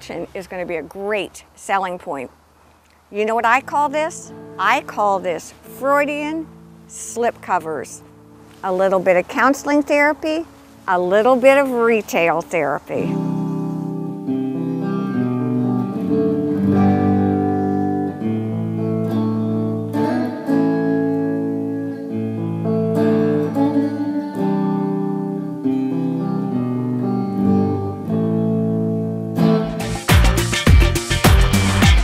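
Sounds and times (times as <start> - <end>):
electric guitar chords: 3.2 - 32.0.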